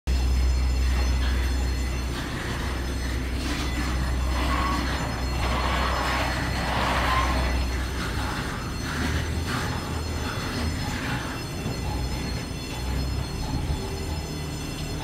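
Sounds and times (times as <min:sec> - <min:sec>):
boarding bridge drone and rumble: 0:00.1 - 0:15.0
short metallic squeals: 0:00.6 - 0:15.0.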